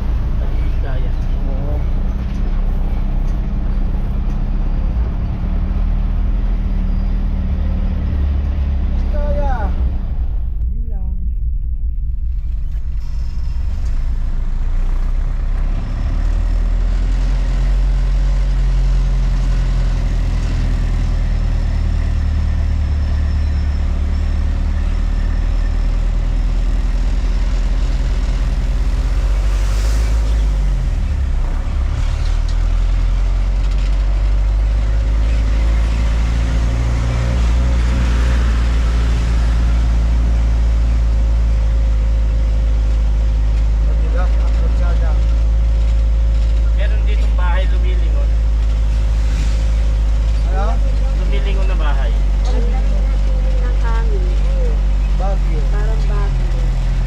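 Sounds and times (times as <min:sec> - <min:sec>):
road noise: 0:00.0 - 0:57.0
truck engine humming: 0:00.0 - 0:57.0.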